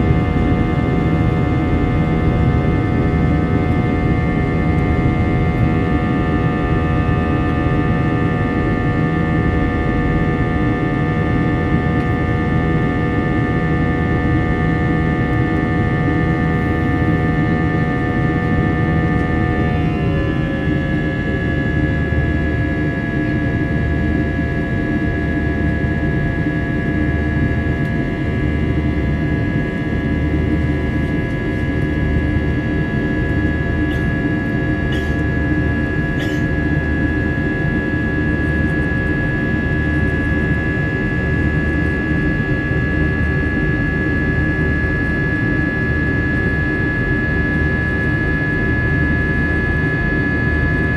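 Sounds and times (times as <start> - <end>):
jet engines rumbling and whining: 0.0 - 50.9.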